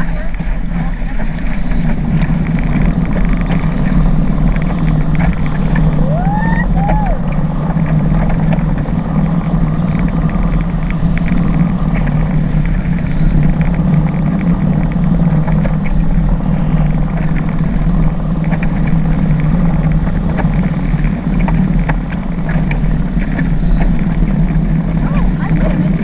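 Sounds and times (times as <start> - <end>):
deep even rumble: 0.0 - 26.0
rushing wind: 0.0 - 26.0
water rushing past boat: 0.0 - 26.0.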